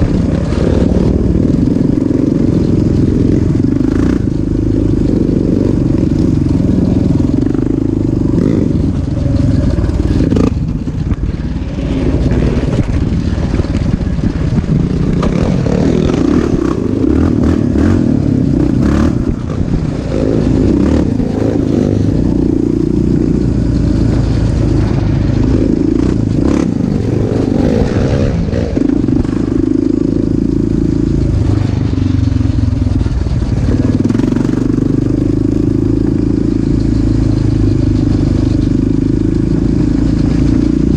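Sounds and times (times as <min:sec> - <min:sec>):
clatter: 0:00.0 - 0:40.9
off-road motorcycle engine revving: 0:00.0 - 0:40.9.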